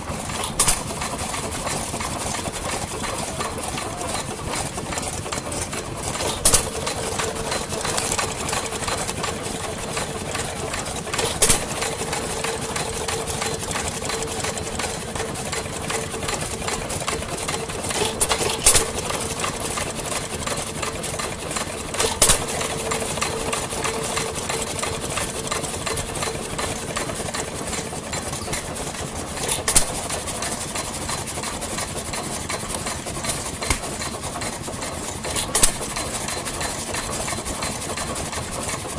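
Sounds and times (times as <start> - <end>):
engines clattering: 0.0 - 38.9.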